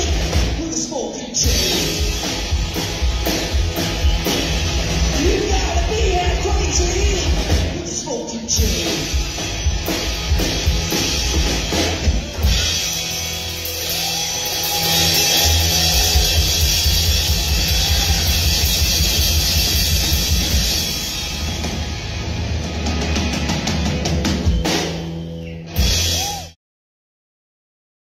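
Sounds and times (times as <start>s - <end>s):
drum kit playing fast: 0.0s - 26.6s
amplified electric guitar: 1.4s - 26.6s.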